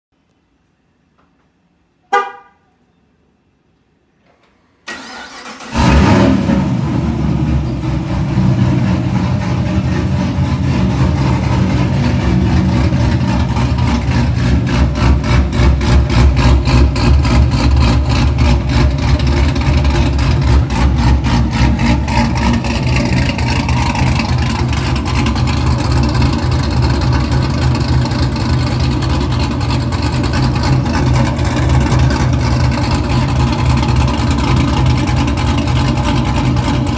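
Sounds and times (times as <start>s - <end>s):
car engine starting and idling: 4.8s - 36.9s.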